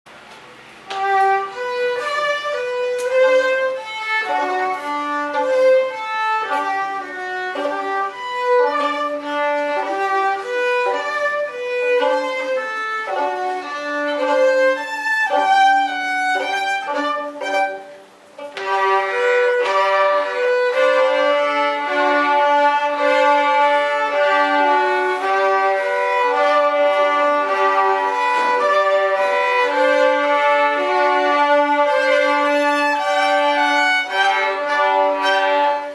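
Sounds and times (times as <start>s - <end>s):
bowed violin melody: 0.9s - 35.9s.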